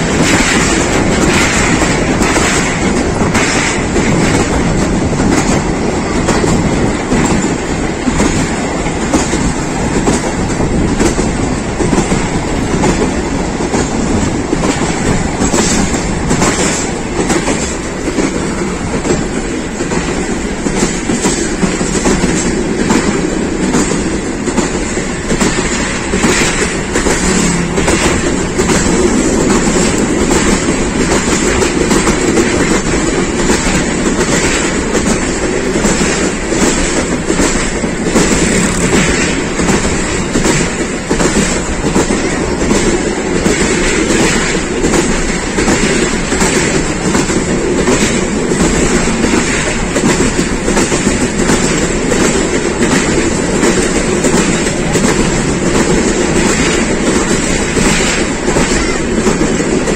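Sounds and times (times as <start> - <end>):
train wheels rumbling on rails: 0.0 - 59.9
wheels clicking over rail joints: 0.0 - 59.9.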